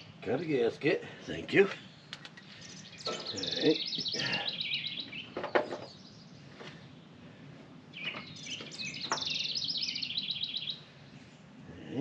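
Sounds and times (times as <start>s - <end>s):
songbird chirping: 1.3s - 7.2s, 7.8s - 11.6s.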